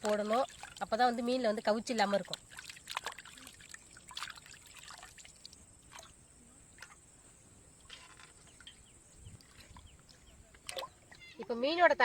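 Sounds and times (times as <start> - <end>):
water trickling and dripping: 0.0 - 11.6.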